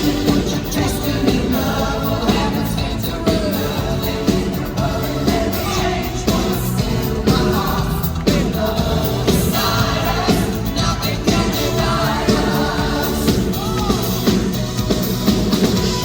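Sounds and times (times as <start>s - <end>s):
man singing lead vocal: 0.0s - 14.8s
live pop band over pa: 0.0s - 16.0s
steady drum beat: 0.0s - 16.0s.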